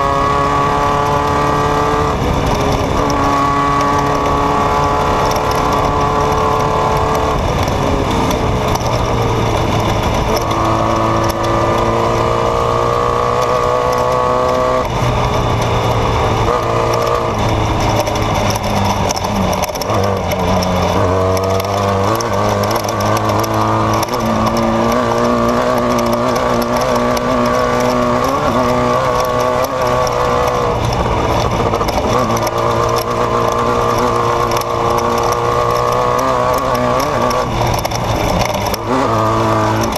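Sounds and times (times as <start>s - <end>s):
race vehicle engine revving: 0.0s - 39.9s
steady rush of noise: 0.0s - 39.9s.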